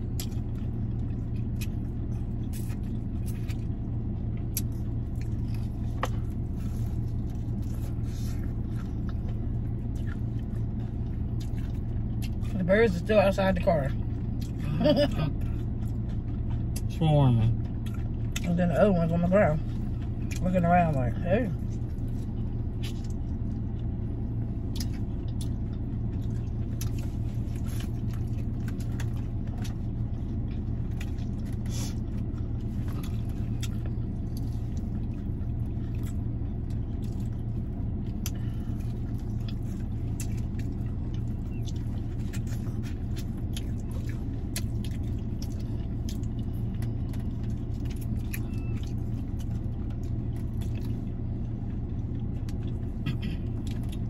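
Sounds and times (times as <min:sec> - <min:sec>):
crunchy food chewing: 0:00.0 - 0:13.0, 0:13.9 - 0:54.0
car idling hum: 0:00.0 - 0:54.0.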